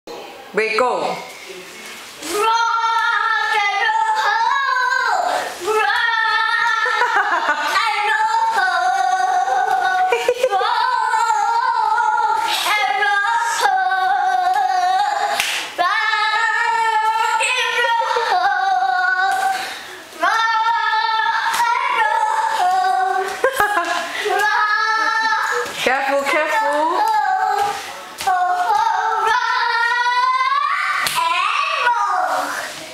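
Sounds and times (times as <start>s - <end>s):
young child singing: 2.2s - 32.9s.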